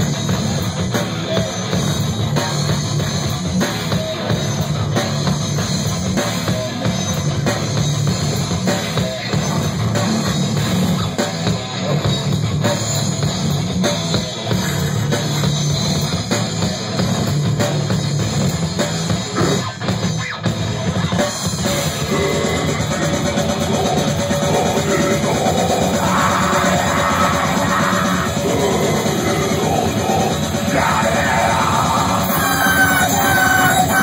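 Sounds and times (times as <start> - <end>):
bass drum: 0.0 - 34.0
metal band playing: 0.0 - 34.0.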